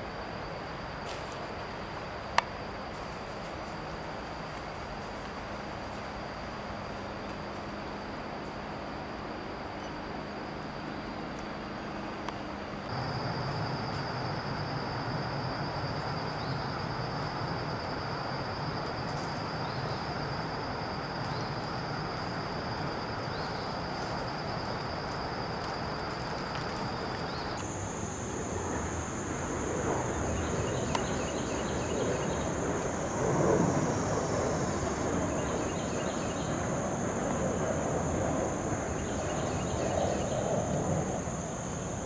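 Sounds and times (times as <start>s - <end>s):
thin high whine: 0.0s - 42.0s.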